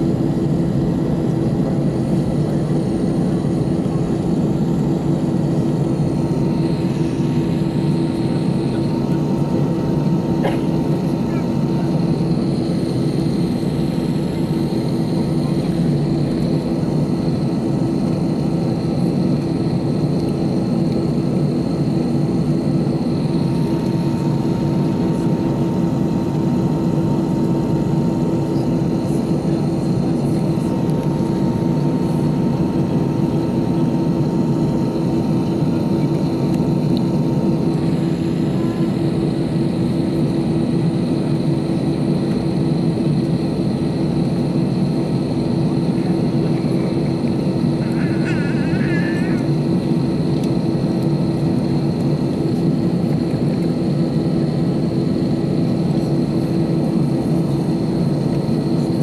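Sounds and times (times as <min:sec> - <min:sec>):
jet engines humming in cabin: 0:00.0 - 0:59.0.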